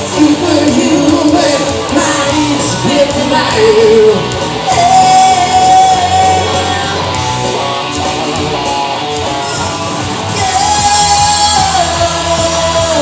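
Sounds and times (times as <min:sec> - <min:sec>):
live band with guitar: 0:00.0 - 0:13.0.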